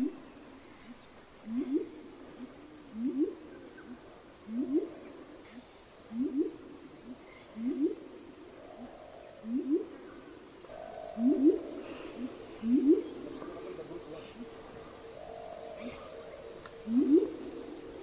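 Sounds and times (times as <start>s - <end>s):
bird calling hollow paired notes: 1.4s - 5.1s, 6.1s - 8.1s, 8.7s - 18.0s.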